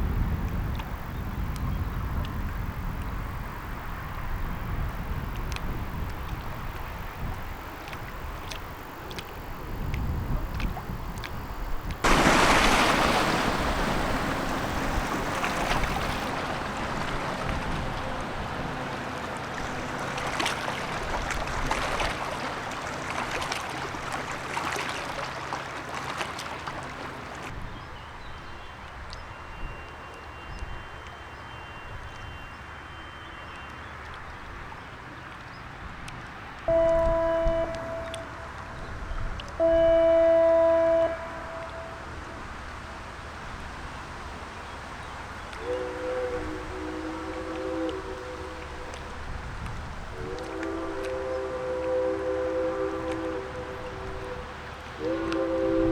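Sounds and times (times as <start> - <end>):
ship's horn: 0.0 - 27.7, 29.3 - 34.6, 36.6 - 44.2, 44.8 - 55.9
faint low engine hum: 0.0 - 55.9
ship's wash splashing: 0.0 - 55.9.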